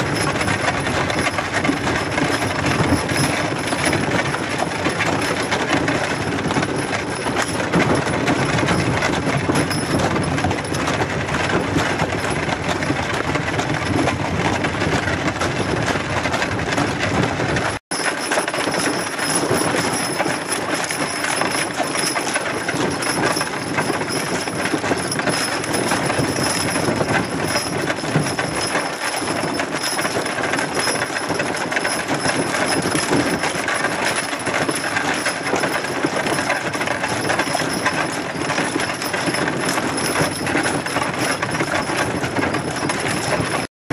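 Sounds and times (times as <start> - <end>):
metal harness jingling: 0.0 - 12.9, 17.6 - 43.7
wagon wheels rattling on gravel: 0.0 - 43.7.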